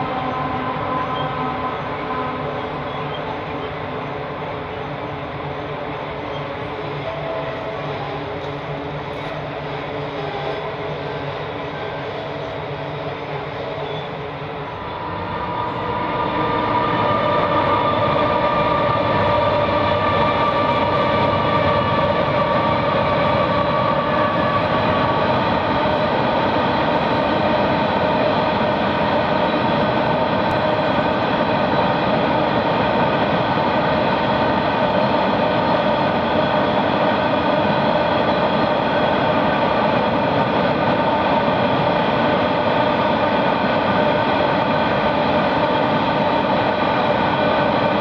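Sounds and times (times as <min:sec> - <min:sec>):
train rumbling across bridge: 0:00.0 - 0:48.0.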